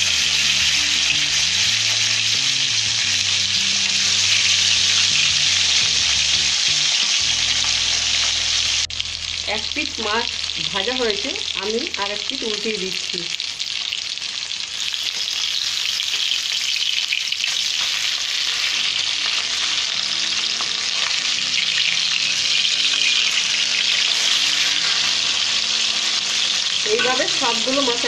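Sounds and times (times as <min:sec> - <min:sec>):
fish sizzling in oil: 0:00.0 - 0:28.0.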